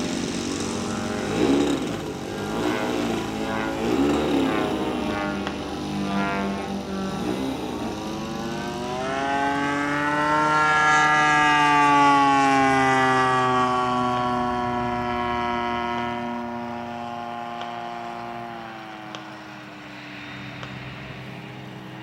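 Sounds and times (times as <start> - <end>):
model plane engine buzzing: 0.0 - 22.0.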